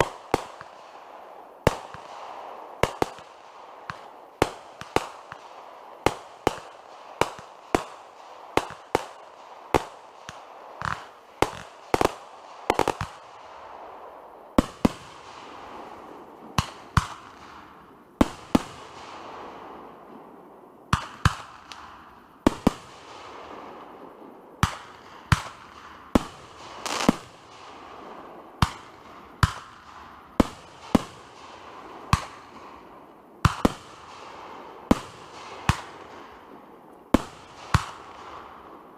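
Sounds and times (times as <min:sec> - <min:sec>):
continuous hiss: 0:00.0 - 0:38.9
fireworks bangs: 0:01.6 - 0:13.3, 0:14.6 - 0:19.9, 0:24.6 - 0:38.8.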